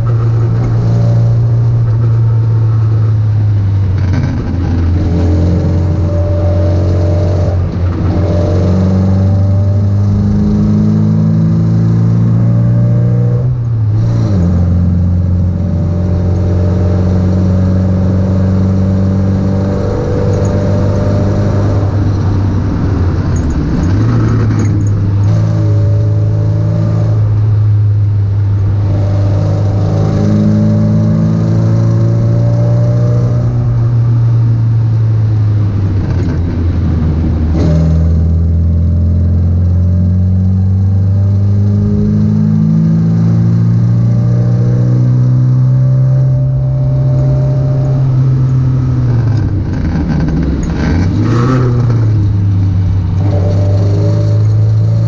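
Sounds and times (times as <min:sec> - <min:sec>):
car engine revving uphill: 0:00.0 - 0:55.0.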